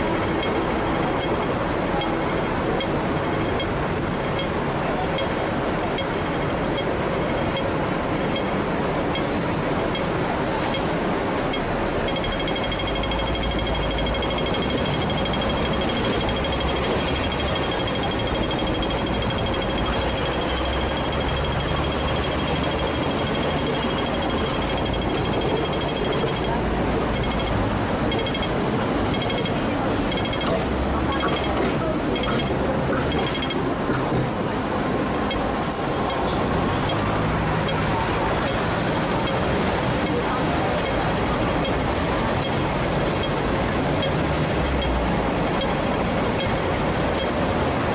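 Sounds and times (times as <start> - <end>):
crossing signal ticking: 0.0 - 33.8, 35.2 - 47.5
street traffic rumbling: 0.0 - 47.9
trams rumbling: 0.0 - 47.9.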